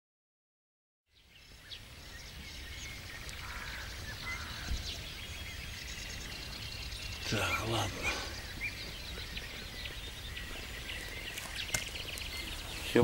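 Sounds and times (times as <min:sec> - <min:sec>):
birds chirping: 0:01.1 - 0:13.0.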